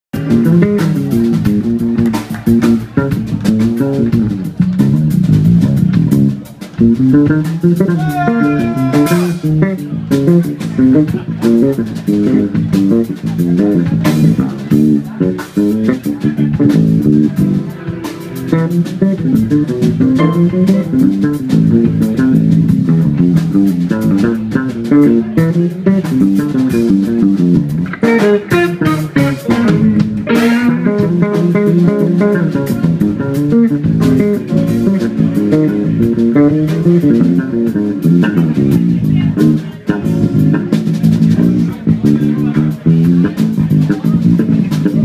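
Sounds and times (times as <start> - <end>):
drum kit keeping time: 0.1 - 45.0
electric bass guitar solo: 0.2 - 45.0.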